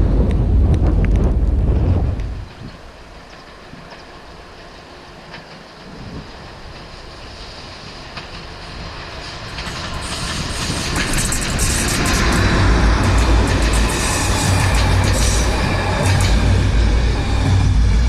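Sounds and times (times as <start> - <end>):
train approaching: 0.0 - 18.0
wheels clattering over rails: 0.2 - 17.7.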